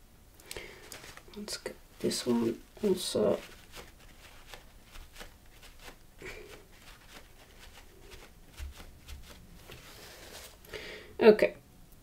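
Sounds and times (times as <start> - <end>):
paper towel rustling and wiping: 0.7 - 10.6.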